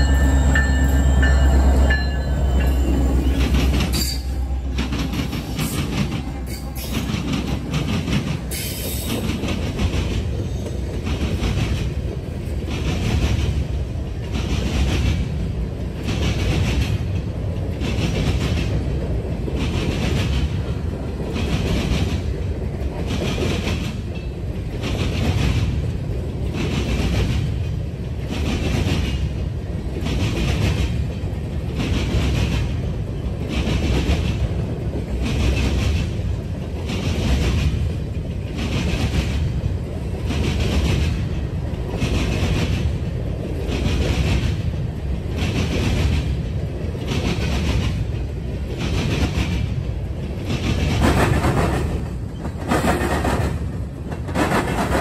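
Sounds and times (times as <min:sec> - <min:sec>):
train rumble: 0:00.0 - 0:55.0
train wheels clattering on rails: 0:00.0 - 0:55.0.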